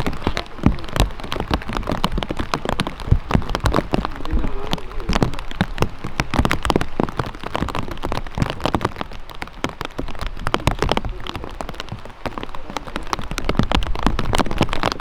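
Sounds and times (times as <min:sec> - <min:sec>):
large raindrops tapping: 0:00.0 - 0:15.0
rain falling: 0:00.0 - 0:15.0.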